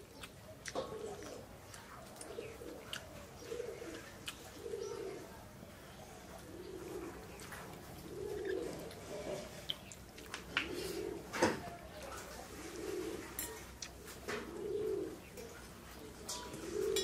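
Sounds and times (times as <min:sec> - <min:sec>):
people eating from steel plates: 0:00.0 - 0:14.5, 0:15.1 - 0:17.0
dove cooing: 0:00.0 - 0:17.0.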